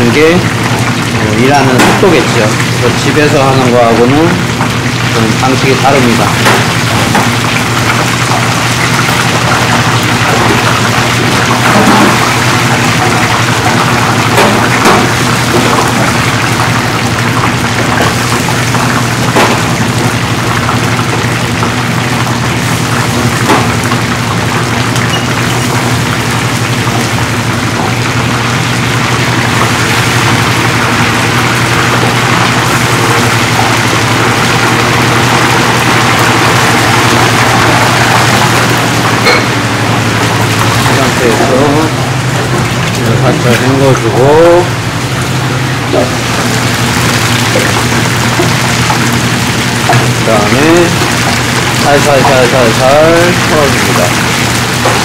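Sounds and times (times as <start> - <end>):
oil sizzling in deep fryer: 0.0 - 55.0.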